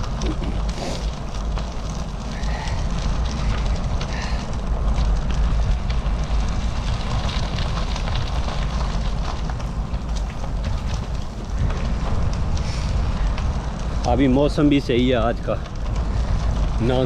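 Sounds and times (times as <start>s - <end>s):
bicycle tyres on dirt path: 0.0s - 17.0s
wind rumbling on microphone: 0.0s - 17.0s.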